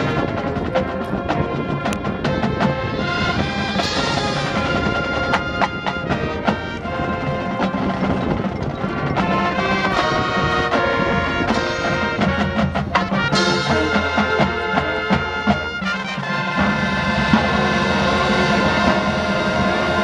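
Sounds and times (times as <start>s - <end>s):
marching band playing: 0.0s - 20.0s
sharp percussion hits: 2.2s - 20.0s.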